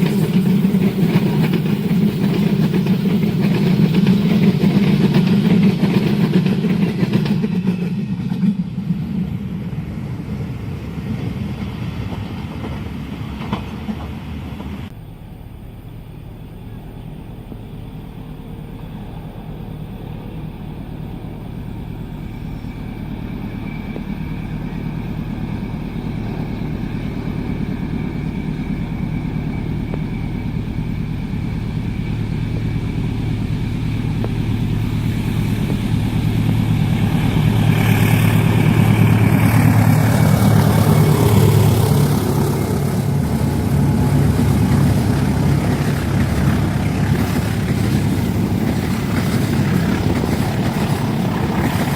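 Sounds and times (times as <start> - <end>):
diesel locomotive engine drone: 0.0 - 51.9
train carriages rumbling past: 0.0 - 51.9.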